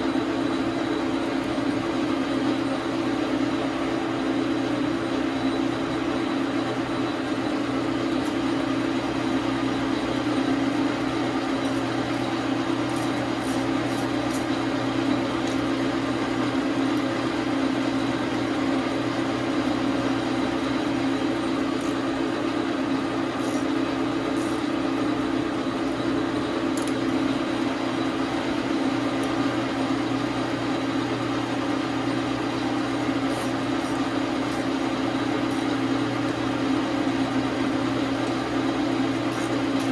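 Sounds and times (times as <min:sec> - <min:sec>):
metal lathe motor and gear hum: 0:00.0 - 0:39.9.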